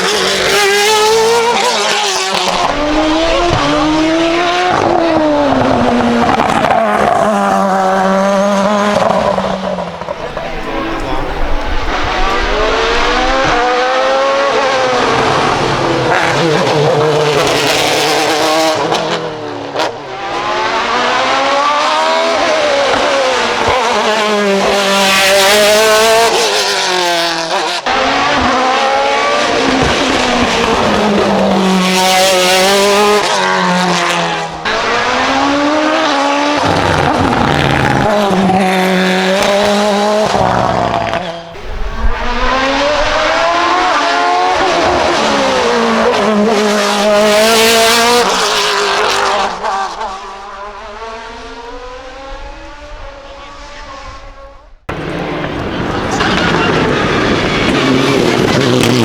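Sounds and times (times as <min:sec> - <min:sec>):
race car engines accelerating: 0:00.0 - 0:59.0.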